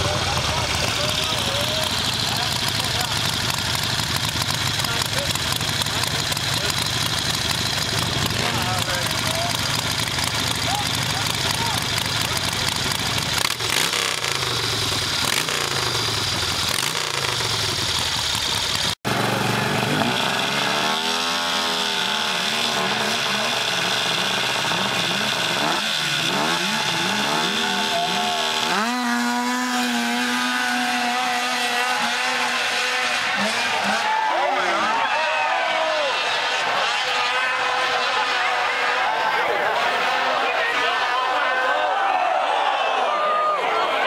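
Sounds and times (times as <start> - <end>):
motorcycle engine revving: 0.0 - 41.3
snowmobile engine revving: 0.0 - 44.0.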